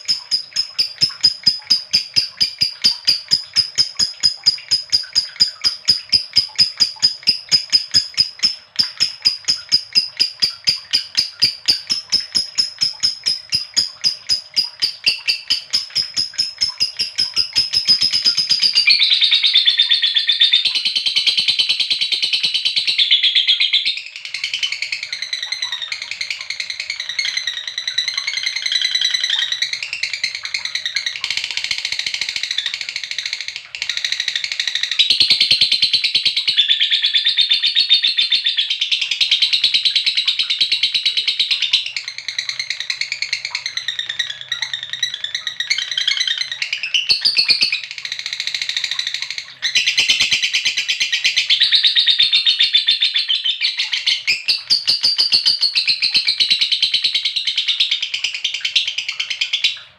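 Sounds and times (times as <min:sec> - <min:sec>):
lovebird calling and chattering: 0:00.0 - 0:59.8.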